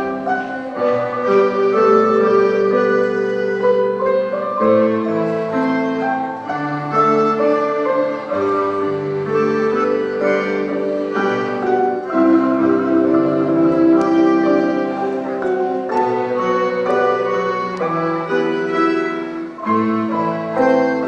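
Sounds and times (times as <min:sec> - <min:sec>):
school ensemble playing music: 0:00.0 - 0:21.0.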